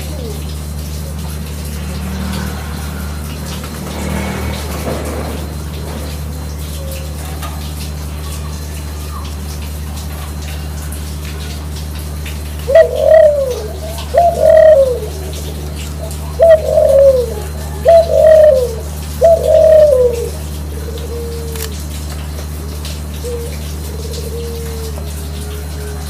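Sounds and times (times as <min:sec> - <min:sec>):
doves cooing: 0:00.0 - 0:09.6, 0:12.4 - 0:26.0.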